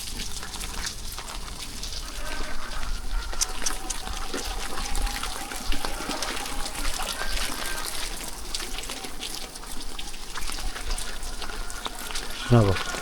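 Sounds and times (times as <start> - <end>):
steady rain: 0.0 - 13.0
water drips and splashes: 0.0 - 13.0
water trickling on street: 0.0 - 13.0.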